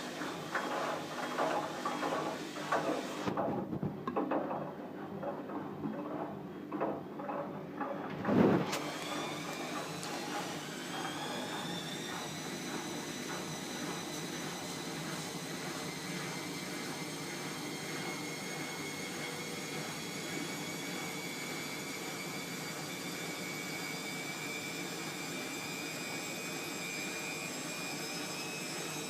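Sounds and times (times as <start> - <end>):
washing machine spin hum and whine: 0.0 - 29.0.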